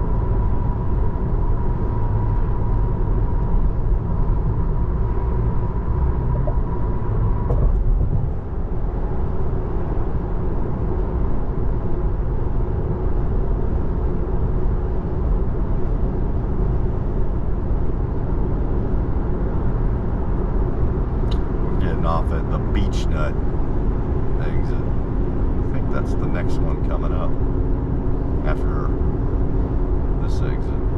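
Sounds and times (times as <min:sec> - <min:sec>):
road and tyre noise in car: 0:00.0 - 0:30.9.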